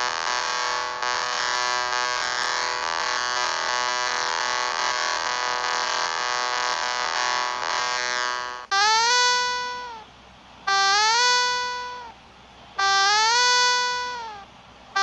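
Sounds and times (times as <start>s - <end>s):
buzzy emergency alert tone: 0.0s - 10.0s, 10.7s - 12.1s, 12.8s - 14.4s.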